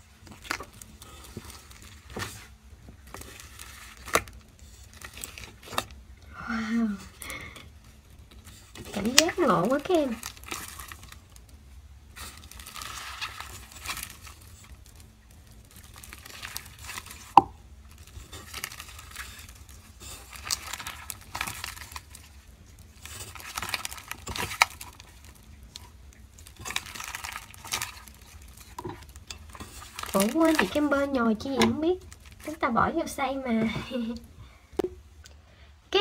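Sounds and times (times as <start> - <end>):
slime squishing and crackling: 0.0 - 34.3.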